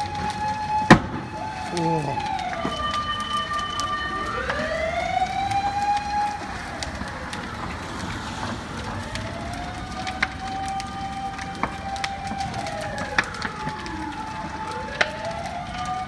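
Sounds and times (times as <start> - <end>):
sharp cracks: 0.0 - 16.0
siren wailing: 0.0 - 16.0.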